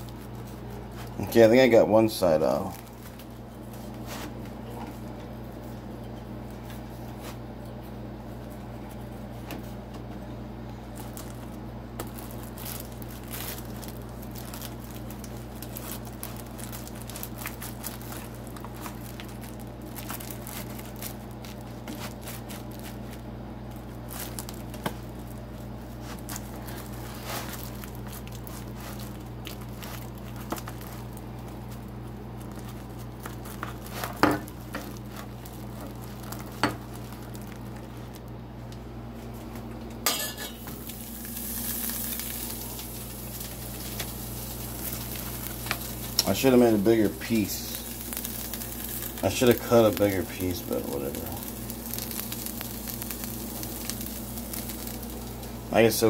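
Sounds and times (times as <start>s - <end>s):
plastic wrap crinkling: 0.0s - 5.8s, 10.7s - 39.7s, 40.5s - 56.0s
steady low hum: 0.0s - 56.0s.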